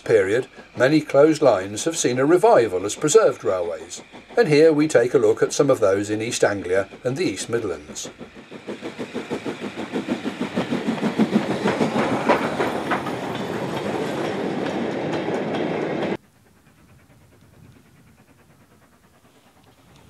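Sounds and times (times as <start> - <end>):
steam locomotive exhaust beats: 0.0 - 20.0
train wagons clickety-clack: 0.0 - 20.0.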